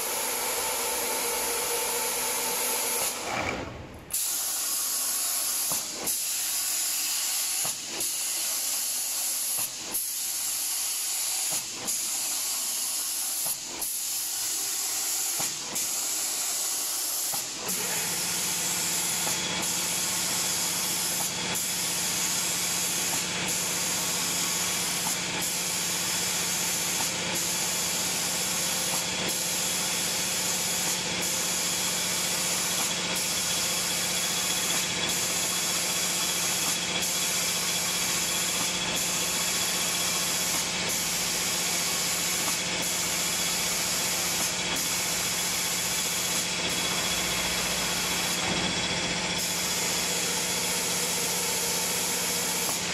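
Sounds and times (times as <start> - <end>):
spray gun hissing: 0.0 - 3.2, 4.1 - 48.4, 49.4 - 52.9.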